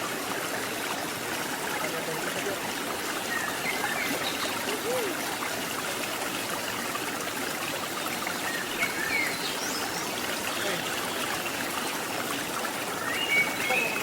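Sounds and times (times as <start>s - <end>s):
waterfall and stream splashing: 0.0s - 14.0s.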